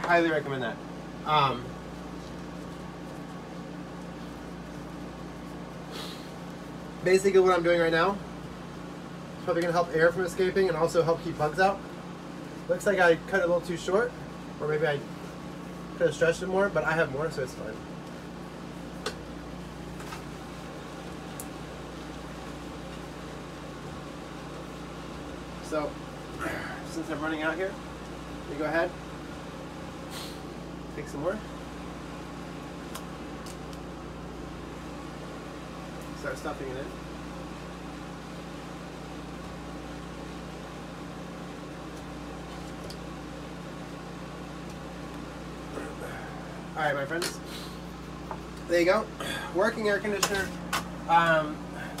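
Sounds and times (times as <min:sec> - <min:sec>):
air conditioner fan and hum: 0:00.0 - 0:52.0.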